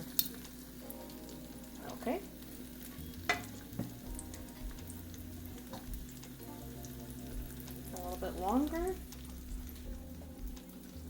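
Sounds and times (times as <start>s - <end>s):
bread sizzling in a pan: 0.0s - 11.0s.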